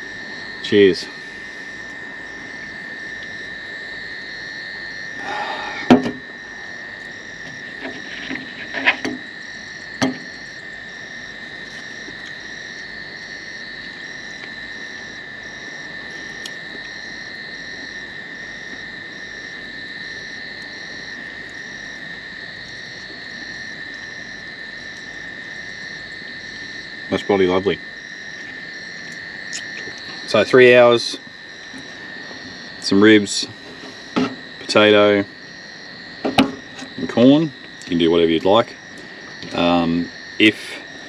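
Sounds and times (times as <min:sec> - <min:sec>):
frogs and insects trilling: 0:00.0 - 0:41.0.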